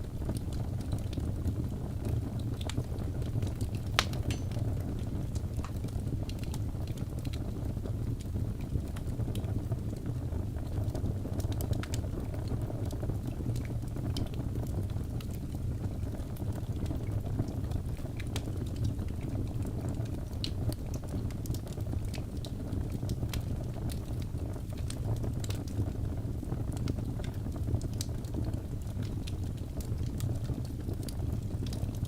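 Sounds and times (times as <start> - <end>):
fire crackles and pops: 0.0 - 32.0
low rumble of flame: 0.0 - 32.0.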